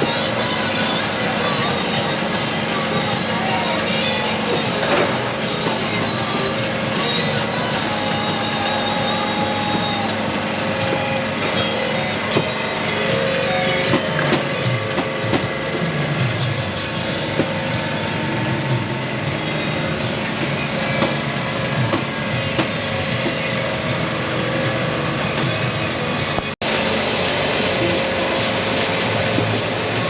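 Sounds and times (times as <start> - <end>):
crowd chatter: 0.0 - 30.0.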